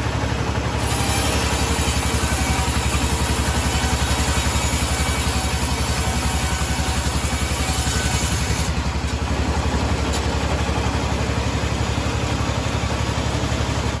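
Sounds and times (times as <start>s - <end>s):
engine running with low pulsing: 0.0s - 14.0s.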